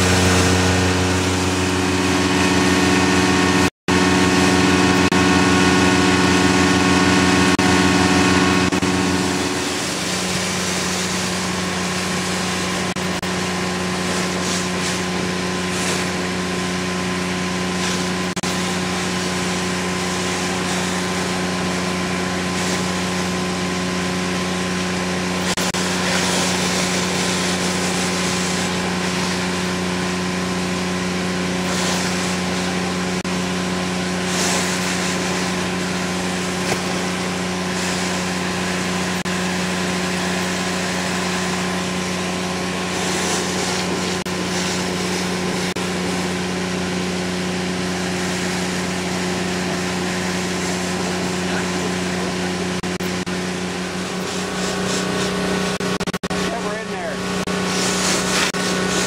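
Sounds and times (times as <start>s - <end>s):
vacuum system running: 0.0s - 59.0s.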